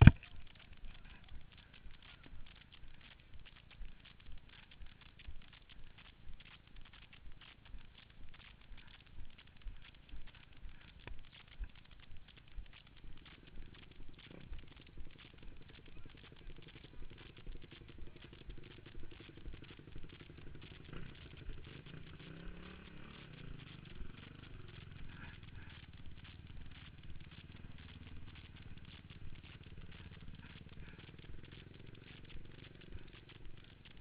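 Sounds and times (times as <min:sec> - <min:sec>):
dense crackling rattle: 0:00.0 - 0:34.0
dirt bike engines passing: 0:00.0 - 0:34.0.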